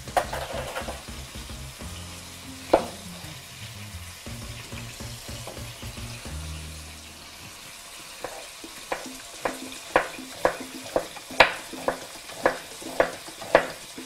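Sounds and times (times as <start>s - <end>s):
sausage sizzling in a frying pan: 0.0s - 14.0s.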